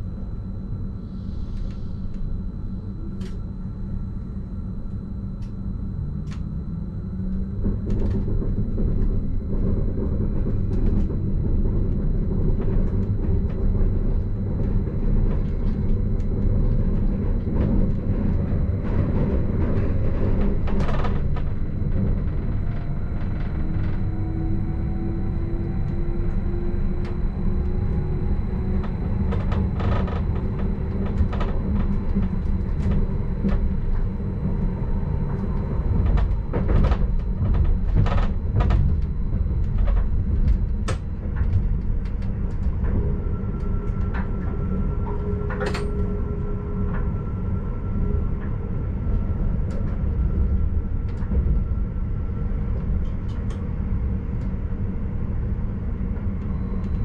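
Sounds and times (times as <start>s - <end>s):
faint drive whine: 0.0s - 57.0s.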